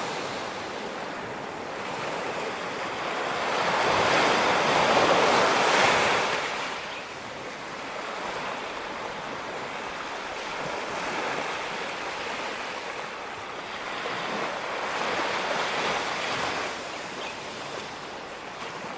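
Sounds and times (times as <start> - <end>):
ocean waves washing onto beach: 0.0 - 18.9.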